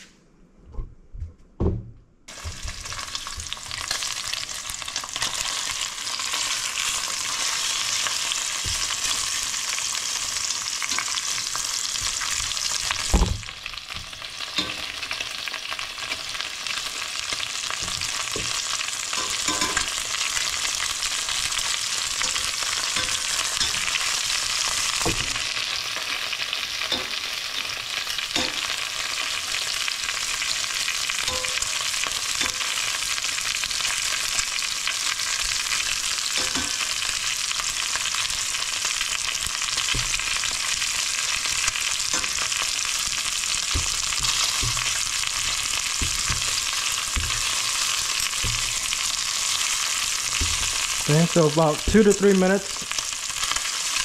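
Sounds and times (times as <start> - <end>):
food sizzling in oil: 2.3 - 54.0.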